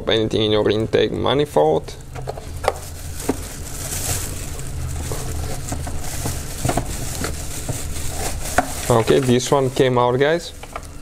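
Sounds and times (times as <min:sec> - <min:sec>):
steady low hum: 0:00.0 - 0:11.0
plastic bag rustling: 0:01.9 - 0:11.0.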